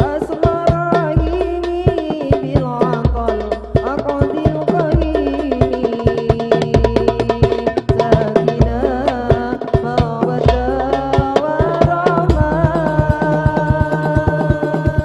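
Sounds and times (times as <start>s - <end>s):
deep bass drum: 0.0s - 15.0s
hand-struck frame drums: 0.0s - 15.0s.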